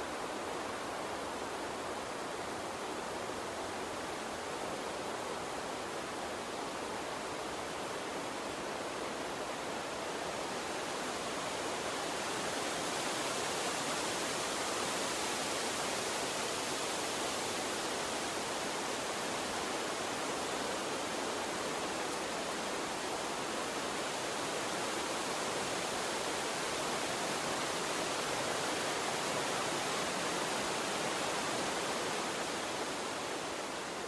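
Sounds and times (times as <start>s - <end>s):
stream of running water: 0.0s - 34.0s.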